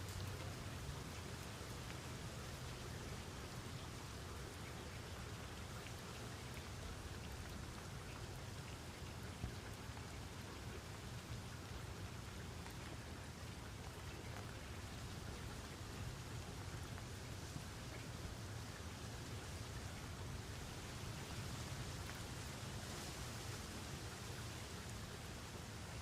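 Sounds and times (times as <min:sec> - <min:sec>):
louder raindrops: 0:00.0 - 0:26.0
steady rain falling: 0:00.0 - 0:26.0.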